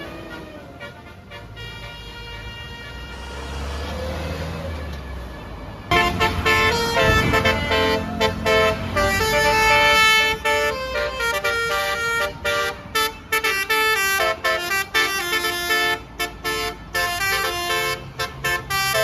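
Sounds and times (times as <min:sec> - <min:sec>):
bus air horn playing a melody: 0:00.0 - 0:03.9, 0:05.9 - 0:19.0.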